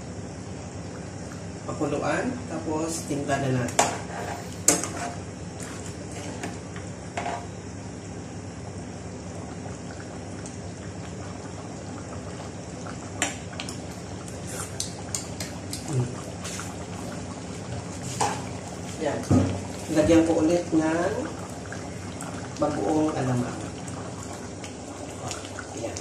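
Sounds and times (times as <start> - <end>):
sauce bubbling in a pot: 0.0 - 26.0.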